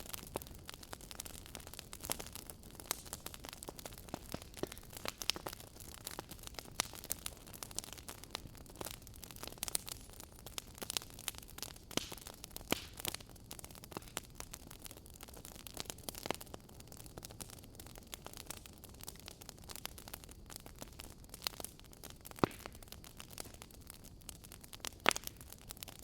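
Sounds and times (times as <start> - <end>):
fireplace crackling and popping: 0.0 - 26.0
soft steady hiss: 0.0 - 26.0.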